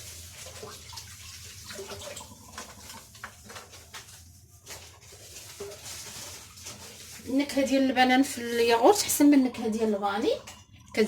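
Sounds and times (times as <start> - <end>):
batter sloshing in a bowl: 0.0 - 11.0.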